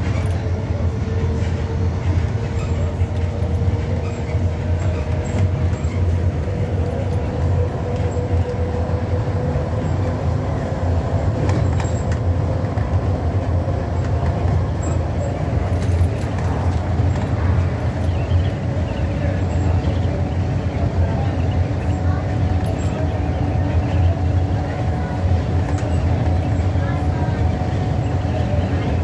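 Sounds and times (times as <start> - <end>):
vehicle rumble from inside: 0.0 - 29.0.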